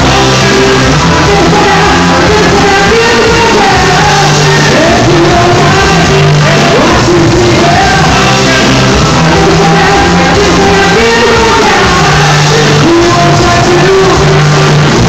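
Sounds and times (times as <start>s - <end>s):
lead singer singing: 0.0s - 15.0s
live rock band playing loud: 0.0s - 15.0s.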